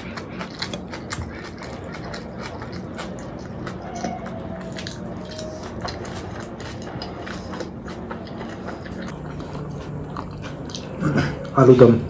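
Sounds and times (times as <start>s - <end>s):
chewing food: 0.0s - 11.6s.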